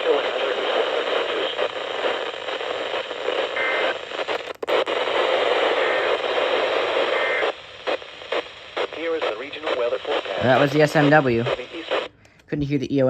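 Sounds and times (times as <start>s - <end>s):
radio hiss and static: 0.0s - 12.2s.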